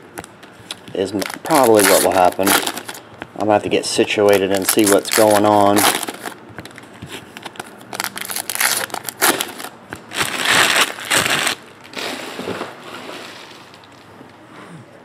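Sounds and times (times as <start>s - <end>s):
wrappers crinkling and tearing: 0.7s - 12.8s.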